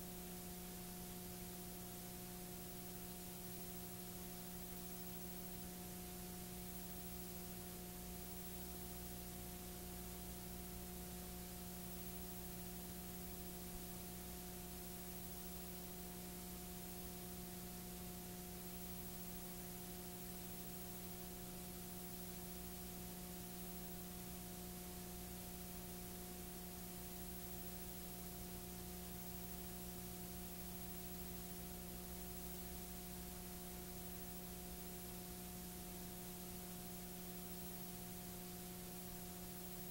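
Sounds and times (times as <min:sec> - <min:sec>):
constant hiss: 0:00.0 - 0:39.9.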